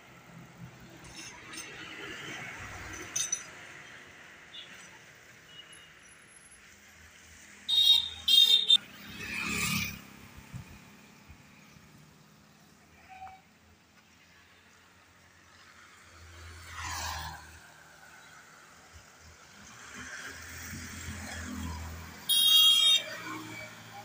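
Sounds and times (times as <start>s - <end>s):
roadside traffic: 0.0s - 24.0s.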